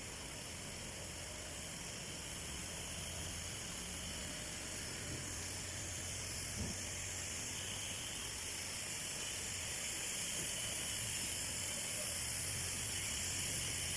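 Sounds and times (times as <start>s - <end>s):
router spindle hissing: 0.0s - 13.9s.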